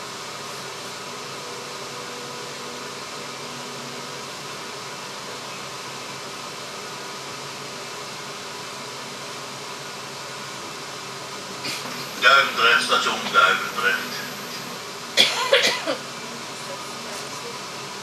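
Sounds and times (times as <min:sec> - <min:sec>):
electric train running noise: 0:00.0 - 0:18.0
faint constant hum: 0:00.0 - 0:18.0.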